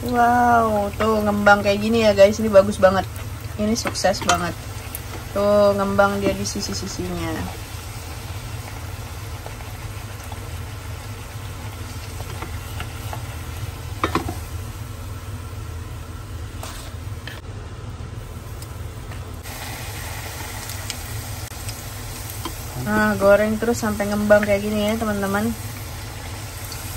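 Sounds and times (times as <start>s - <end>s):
dough sizzling in hot oil: 0.0s - 17.4s, 18.2s - 26.9s
low steady hum: 0.0s - 26.9s.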